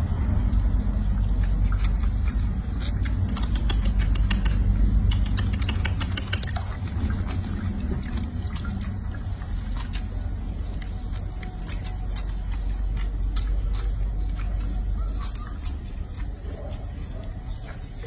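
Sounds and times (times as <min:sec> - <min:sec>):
steady low rumble: 0:00.0 - 0:18.0
water splashing and dripping: 0:00.0 - 0:18.0.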